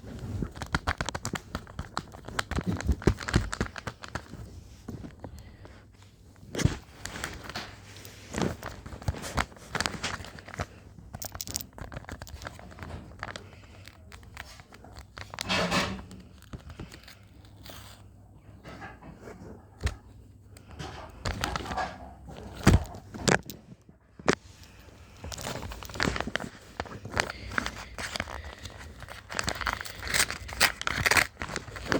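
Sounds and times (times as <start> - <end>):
packaging crinkling and tearing: 0.0 - 5.8, 6.4 - 18.0, 21.2 - 31.9.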